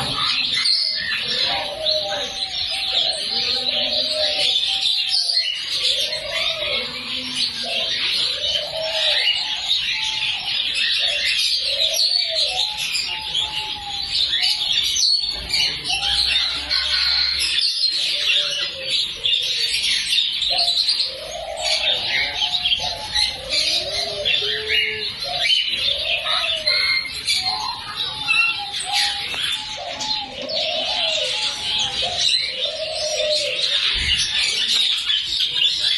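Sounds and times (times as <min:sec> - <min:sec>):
caged birds chirping: 0:00.0 - 0:35.9
low cooing calls: 0:00.0 - 0:35.9.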